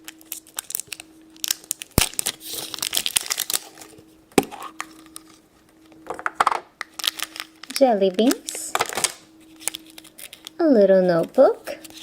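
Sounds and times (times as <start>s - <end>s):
packaging torn and crinkled: 0.0s - 6.0s, 6.8s - 10.6s.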